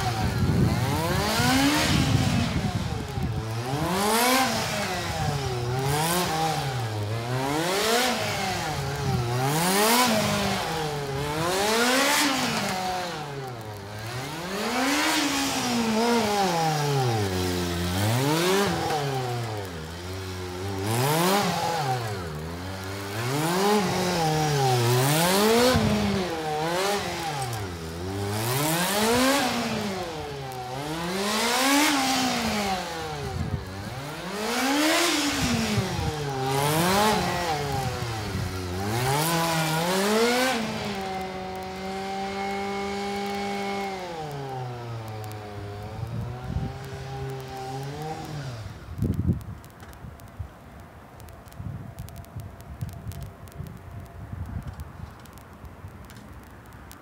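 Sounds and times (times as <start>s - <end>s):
motorcycle engine revving: 0.0s - 49.8s.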